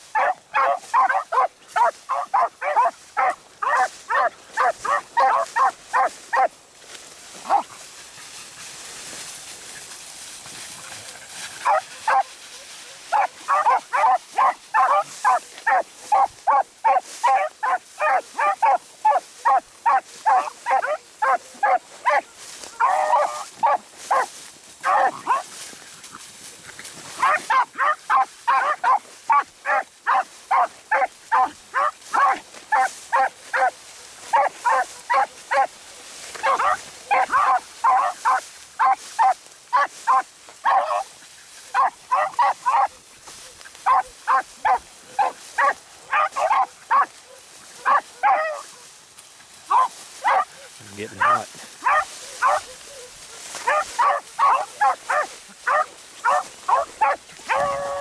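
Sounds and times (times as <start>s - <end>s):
dogs baying: 0.1s - 6.6s, 7.4s - 8.4s, 10.6s - 48.9s, 49.6s - 58.0s.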